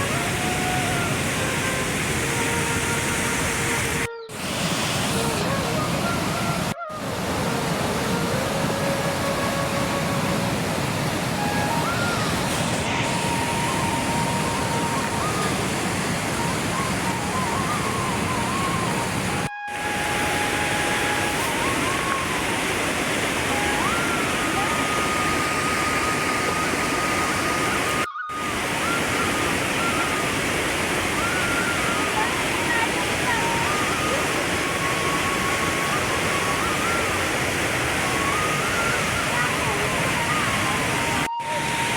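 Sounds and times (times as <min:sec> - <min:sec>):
rushing water: 0:00.0 - 0:41.9
faint melody of held notes: 0:05.1 - 0:41.9.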